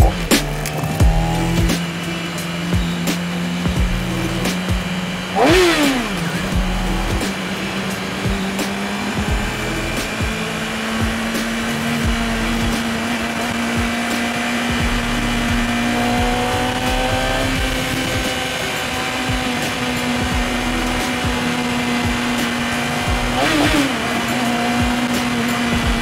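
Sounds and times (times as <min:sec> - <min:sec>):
motorcycle engine whine: 0:00.0 - 0:26.0.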